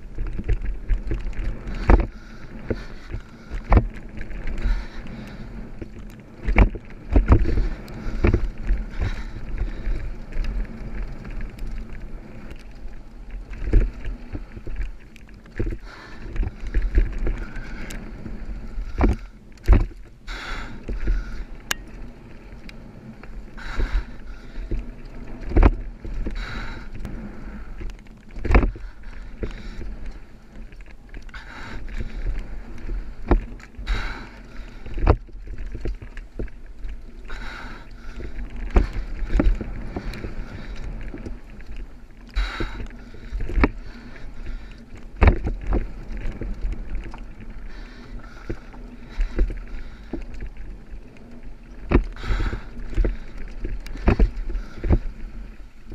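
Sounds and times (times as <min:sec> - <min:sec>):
tyres rumbling on loose dirt: 0:00.0 - 0:55.9.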